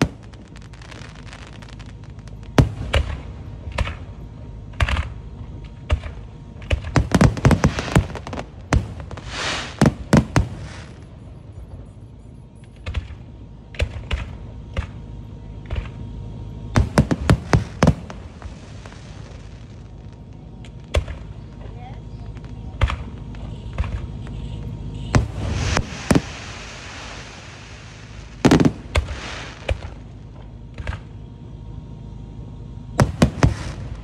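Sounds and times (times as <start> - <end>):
fireworks bangs: 0.0 - 31.3, 32.9 - 34.0.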